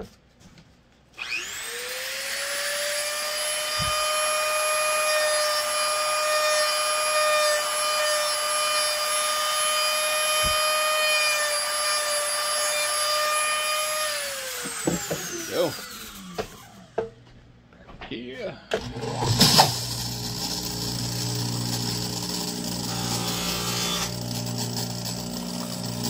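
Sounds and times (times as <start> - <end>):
rotary tool spinning at high speed: 1.2 - 16.8, 18.8 - 26.0.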